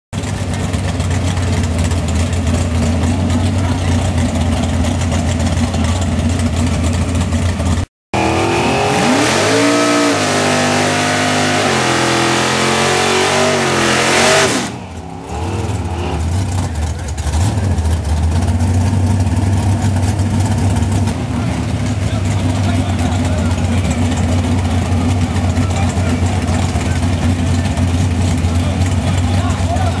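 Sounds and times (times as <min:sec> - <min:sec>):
car engines idling: 0:00.2 - 0:30.0
car engine revving: 0:00.3 - 0:30.0.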